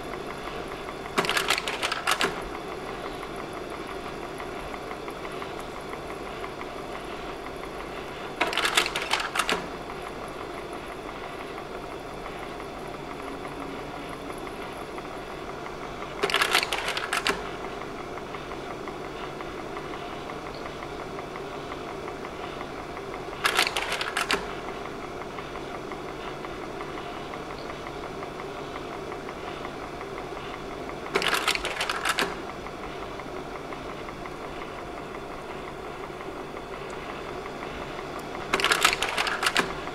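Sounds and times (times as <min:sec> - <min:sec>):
projector fan humming: 0:00.0 - 0:39.9.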